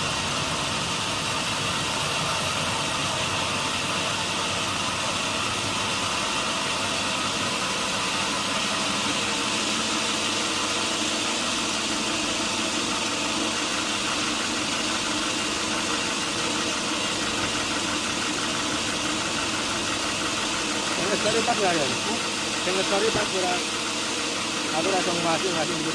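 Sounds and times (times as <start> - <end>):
sawmill machinery droning: 0.0 - 25.9.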